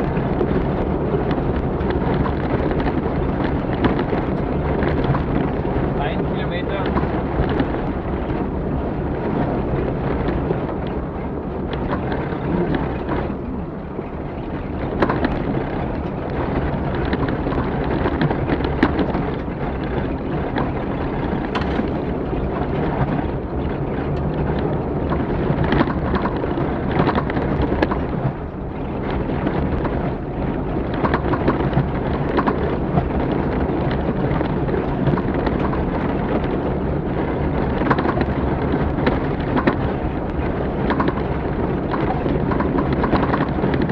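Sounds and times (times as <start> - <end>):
engine and road rumble: 0.0 - 43.9
vehicle knocks and rattles: 0.0 - 43.9.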